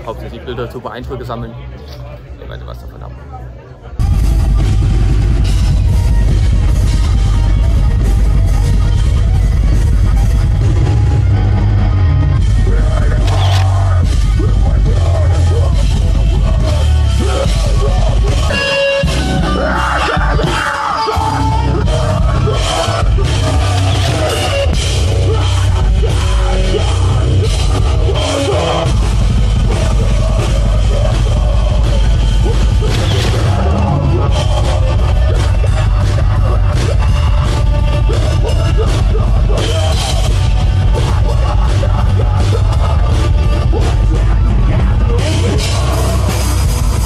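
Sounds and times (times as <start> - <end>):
heavy metal music: 3.8 - 47.0
drum kit playing: 4.0 - 47.0.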